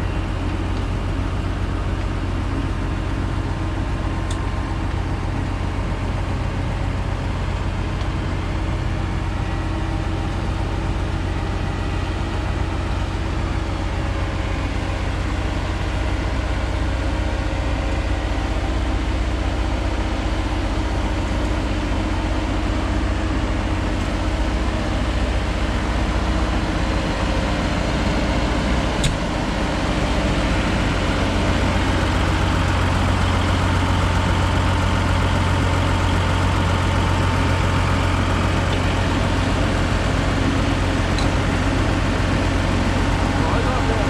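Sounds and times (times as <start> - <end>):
crop sprayer engine running: 0.0 - 44.0.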